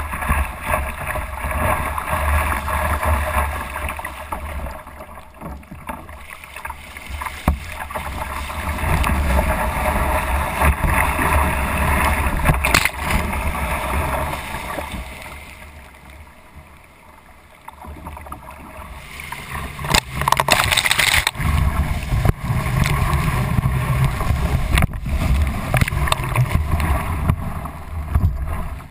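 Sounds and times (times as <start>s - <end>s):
paddle strokes in water: 0.0s - 28.9s
surf splashing against kayak: 0.0s - 28.9s.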